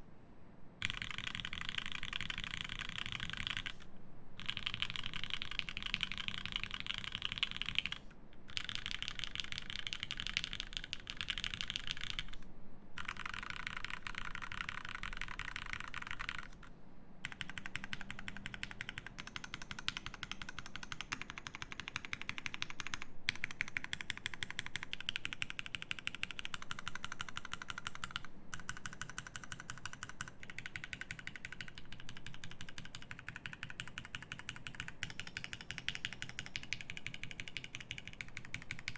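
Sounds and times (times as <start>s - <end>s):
mechanical keyboard typing: 0.8s - 12.4s, 13.0s - 38.9s.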